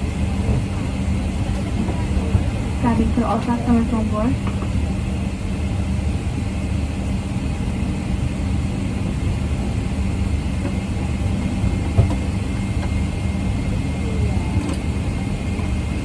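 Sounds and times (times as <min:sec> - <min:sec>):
low cabin drone: 0:00.0 - 0:16.0
ventilation air rushing: 0:00.0 - 0:16.0.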